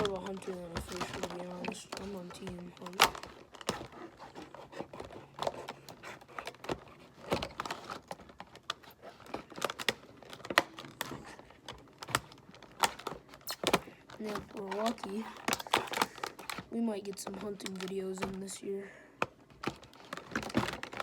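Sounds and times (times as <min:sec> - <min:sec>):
plastic packaging crinkling: 0:00.0 - 0:18.6, 0:19.2 - 0:21.0.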